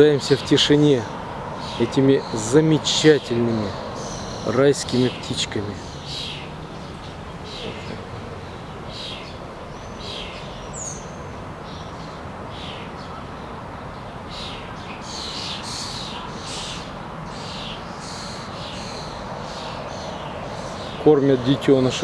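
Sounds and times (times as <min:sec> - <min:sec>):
low hum of city noise: 0:00.0 - 0:22.0
thrushes calling: 0:00.0 - 0:22.0.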